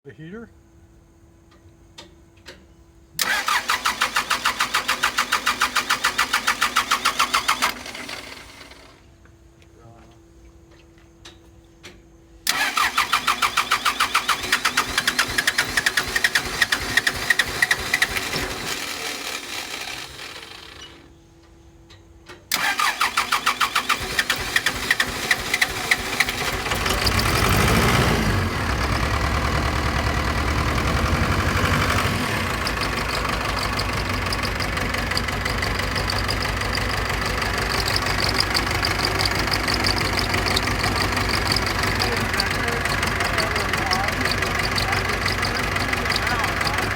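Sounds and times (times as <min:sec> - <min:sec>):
diesel engine rough idle: 0:03.2 - 0:09.0, 0:12.5 - 0:21.2, 0:22.5 - 0:46.9
diesel engine starter cranking: 0:03.2 - 0:09.0, 0:12.4 - 0:21.2, 0:22.4 - 0:46.9.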